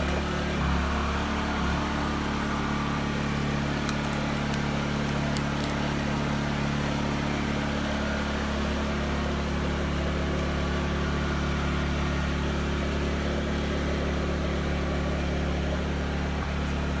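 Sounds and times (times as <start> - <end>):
low mechanical motor hum: 0.0 - 17.0.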